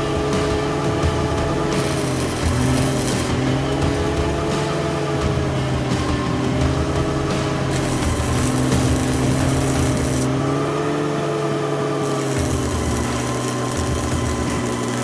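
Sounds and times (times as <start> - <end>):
stick welding crackle: 0.0 - 15.0
tractor engine running: 0.0 - 15.0.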